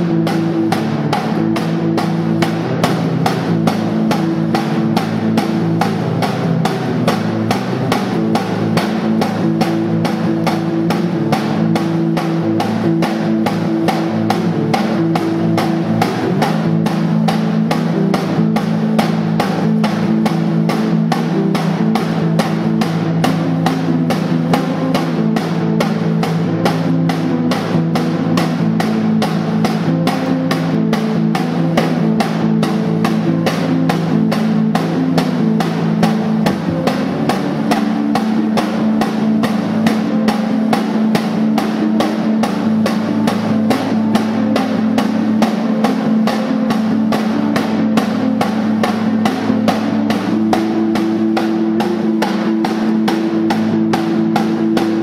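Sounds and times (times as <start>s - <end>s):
droning amplified guitar: 0.0s - 55.0s
snare drum beat: 0.0s - 55.0s.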